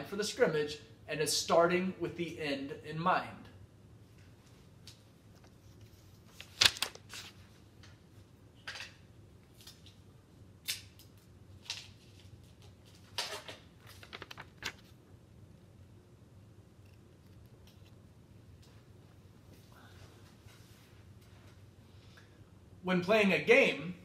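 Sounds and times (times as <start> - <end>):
faint room hum: 0.0 - 24.0.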